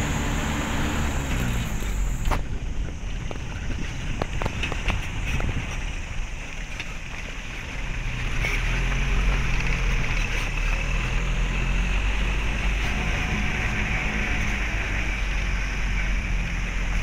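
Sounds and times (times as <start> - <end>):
vehicle engine running: 0.0 - 17.0
wind noise on microphone: 0.0 - 17.0.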